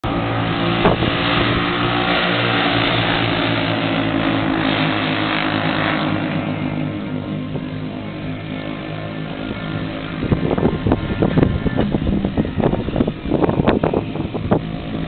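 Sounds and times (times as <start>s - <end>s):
racing kart engines: 0.0s - 15.0s.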